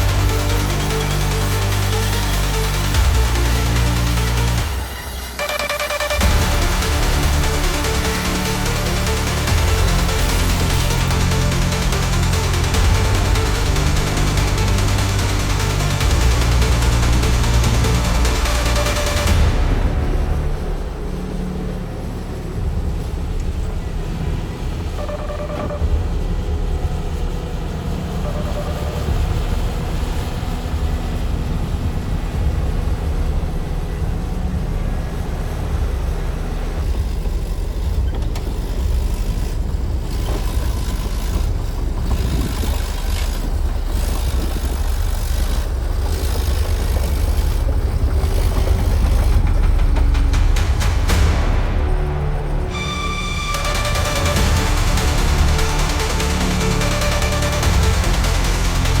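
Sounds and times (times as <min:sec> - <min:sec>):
diesel machinery rumbling: 0:00.0 - 0:59.0.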